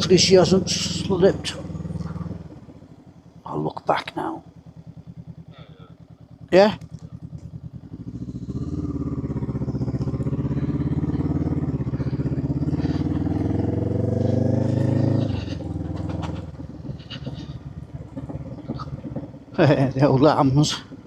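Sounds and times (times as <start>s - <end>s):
motorcycle engine revving uphill: 0.0s - 21.0s.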